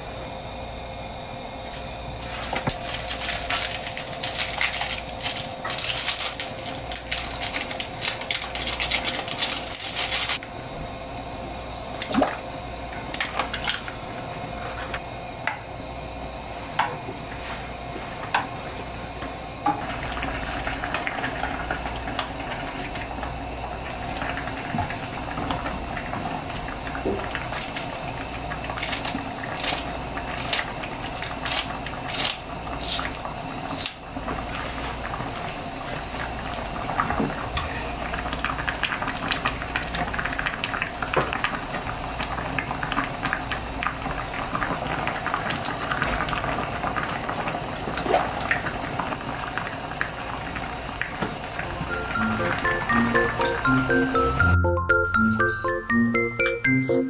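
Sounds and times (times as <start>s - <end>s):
broth bubbling in a pot: 1.9s - 51.9s.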